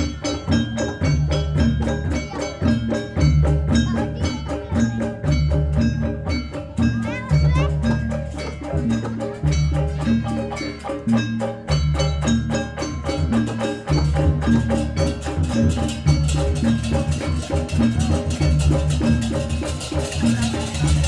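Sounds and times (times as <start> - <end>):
drum strokes: 0.0 - 21.0.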